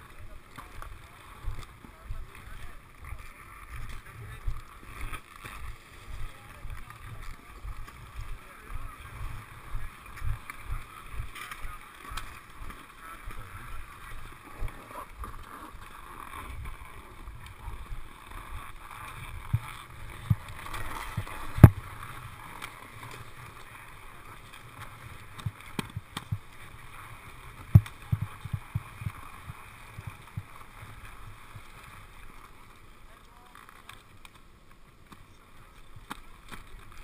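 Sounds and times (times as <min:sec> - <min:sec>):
low steady rustle: 0:00.0 - 0:37.0.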